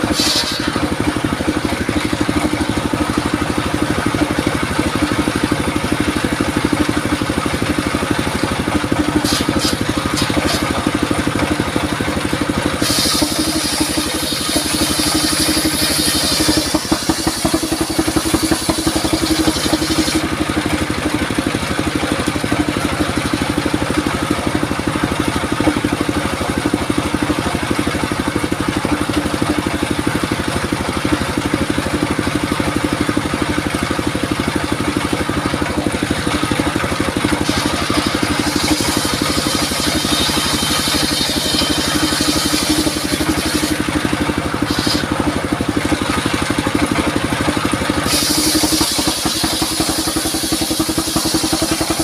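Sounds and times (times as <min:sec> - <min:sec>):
circular saw running: 0:00.0 - 0:52.0
saw blade cutting wood: 0:00.0 - 0:52.0.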